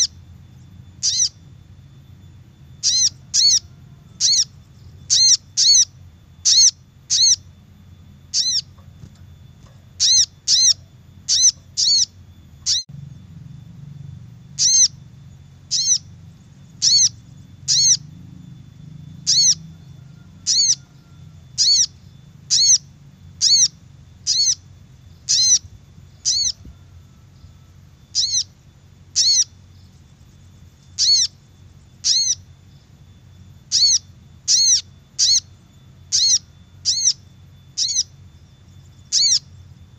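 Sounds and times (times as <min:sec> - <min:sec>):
bird high sharp chirps: 0:00.0 - 0:01.6, 0:02.8 - 0:07.5, 0:08.2 - 0:12.9, 0:14.5 - 0:18.1, 0:18.7 - 0:33.0, 0:33.6 - 0:39.8
low steady hum: 0:00.0 - 0:39.9.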